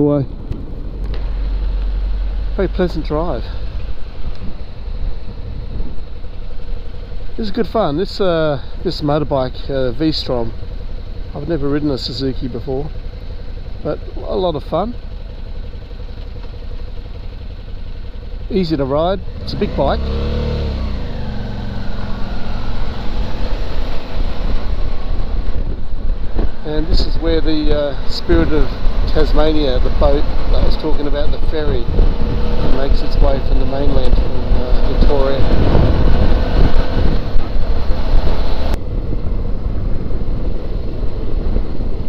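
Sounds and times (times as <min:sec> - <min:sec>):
motorcycle engine running: 0:00.0 - 0:42.0
rushing noise with low rumble: 0:00.0 - 0:42.0.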